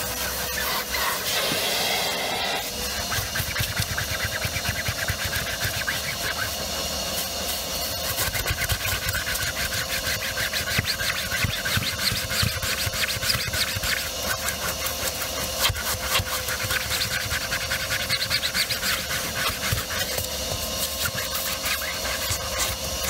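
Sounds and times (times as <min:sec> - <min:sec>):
nozzle rasping on fabric: 0:00.0 - 0:23.0
vacuum cleaner motor hum: 0:00.0 - 0:23.0.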